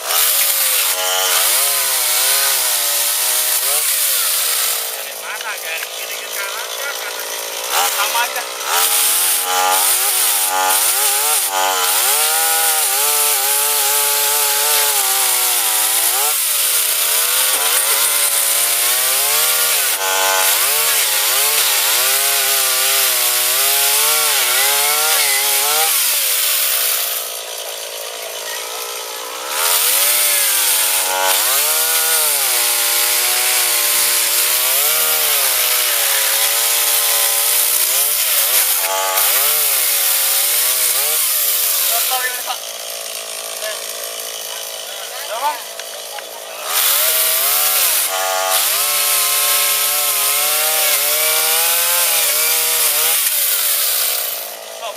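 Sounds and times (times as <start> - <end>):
small engine revving: 0.0 - 54.9.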